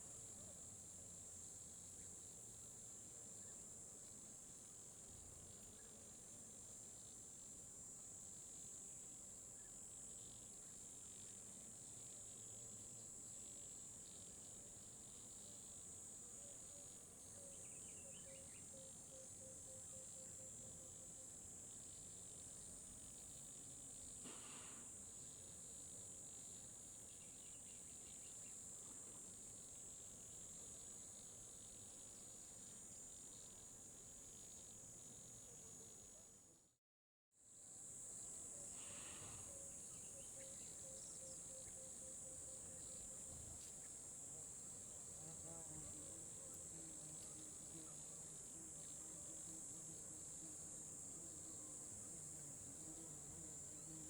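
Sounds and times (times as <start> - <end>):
crickets chirring: 1.1 - 36.3, 37.6 - 54.0.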